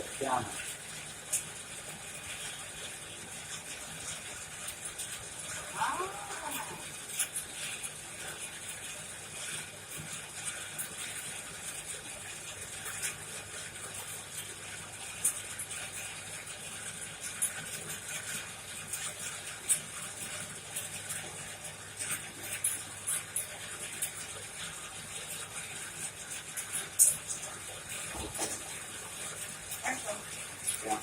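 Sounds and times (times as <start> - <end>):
fire crackles and pops: 0.1 - 31.0.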